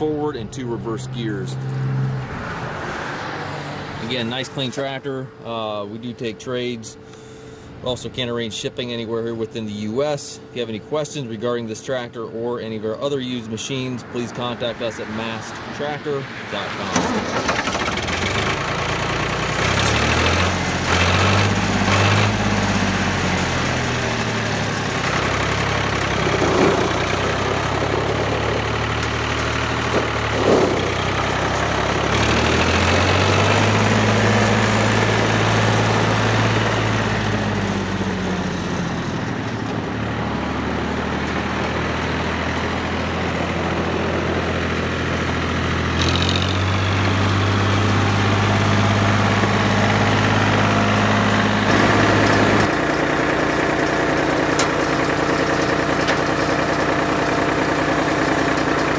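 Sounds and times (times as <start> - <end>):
tractor diesel engine running: 0.0 - 1.8, 2.4 - 58.9.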